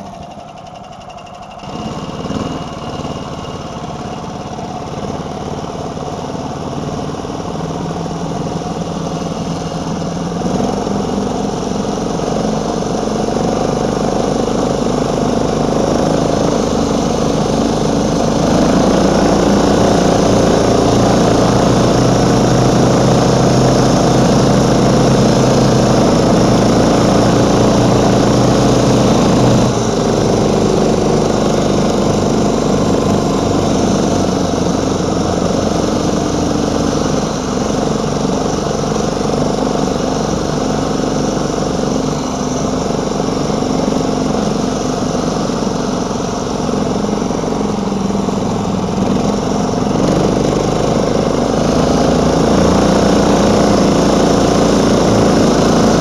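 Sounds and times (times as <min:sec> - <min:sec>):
small snowmobile engine running: 0:00.0 - 0:56.0.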